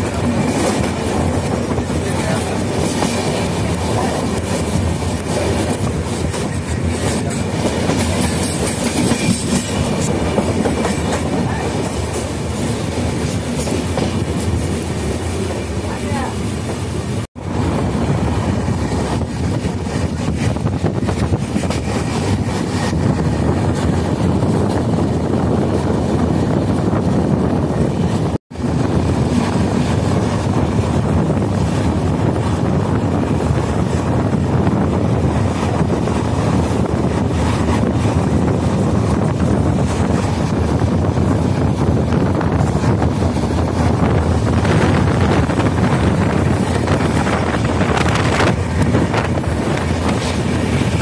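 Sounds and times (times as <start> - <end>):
train coach rumbling on track: 0.0 - 51.0
wind rushing over microphone: 0.0 - 51.0.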